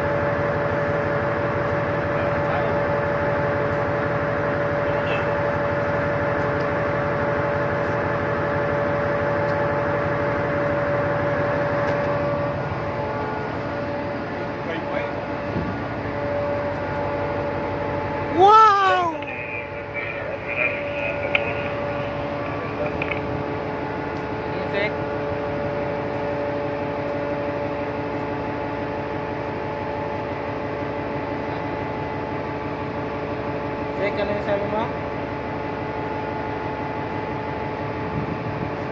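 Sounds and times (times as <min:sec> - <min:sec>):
constant machinery whine: 0:00.0 - 0:38.9.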